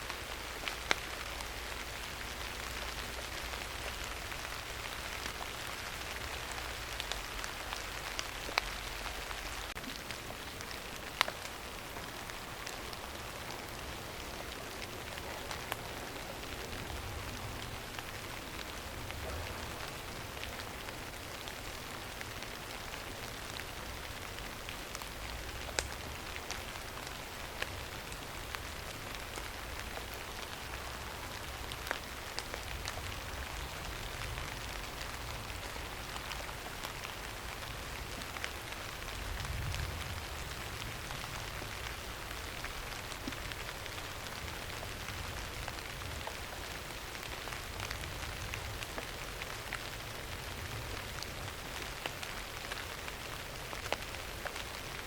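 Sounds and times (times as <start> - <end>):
rain drop ticks: 0.0 - 55.0
steady rain hiss: 0.0 - 55.0.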